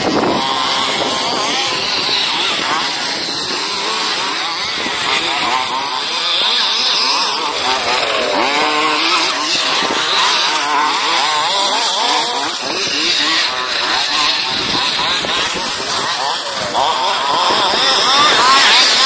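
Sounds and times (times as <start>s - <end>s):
rc buggy engines revving: 0.0s - 19.0s.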